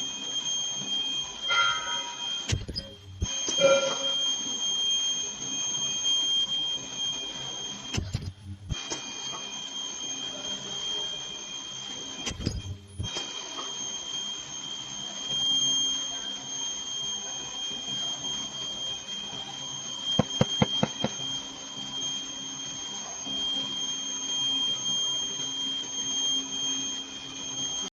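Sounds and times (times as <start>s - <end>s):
ultrasonic welding machine whine: 0.0s - 27.9s.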